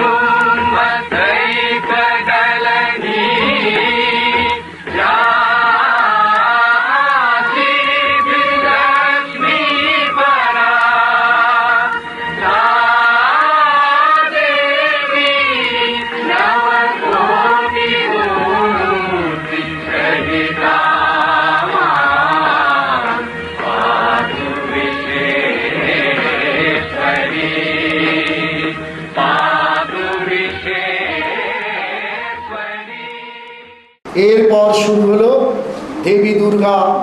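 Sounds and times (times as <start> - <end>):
devotional chanted singing: 0.0 - 37.0.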